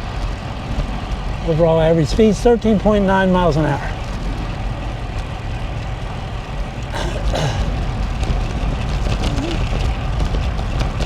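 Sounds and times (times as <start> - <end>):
road traffic passing: 0.0 - 11.0
wind rumble on microphone: 0.0 - 11.0.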